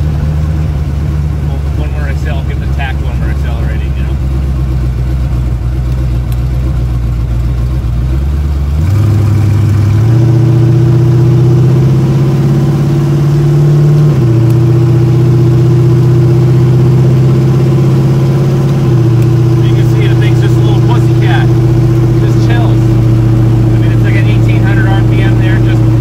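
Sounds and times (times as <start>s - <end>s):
car engine drone from inside cabin: 0.0s - 26.0s.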